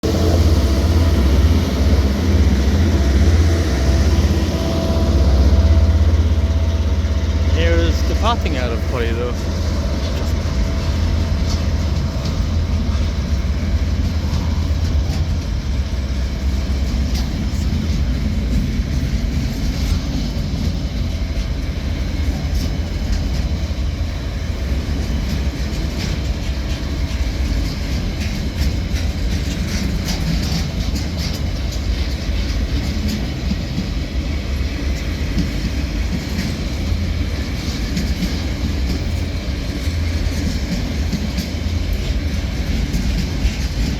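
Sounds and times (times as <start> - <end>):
diesel locomotive engines: 0.0 - 43.9
train wheels clicking over rails: 0.0 - 43.9.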